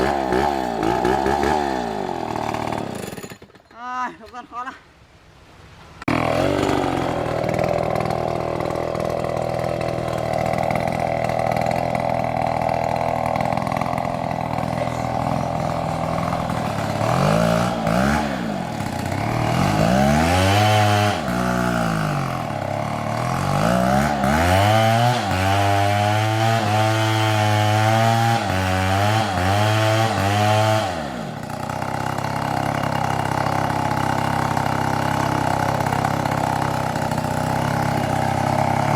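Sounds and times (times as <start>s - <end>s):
chainsaw engine revving: 0.0s - 3.7s, 6.0s - 38.9s.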